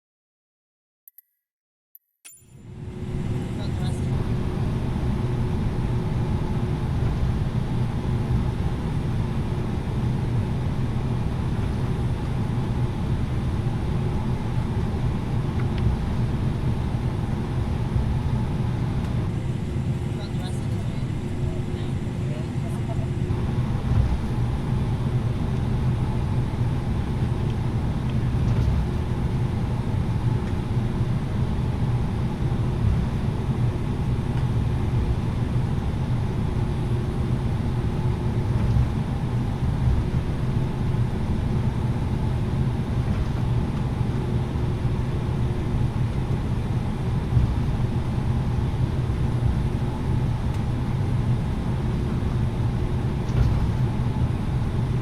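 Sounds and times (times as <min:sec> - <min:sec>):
faint steady hums: 0:02.4 - 0:55.0
airliner cabin engine rumble: 0:02.6 - 0:55.0.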